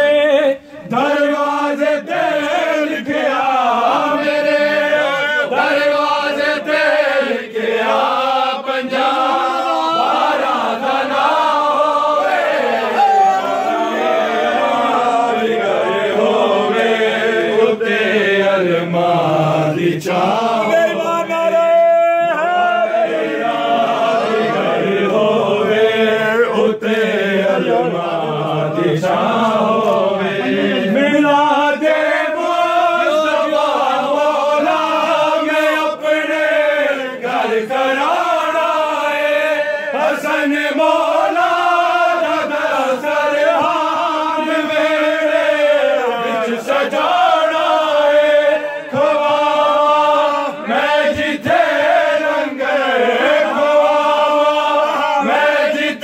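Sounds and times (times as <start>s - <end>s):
men chanting devotional song: 0.0s - 56.0s.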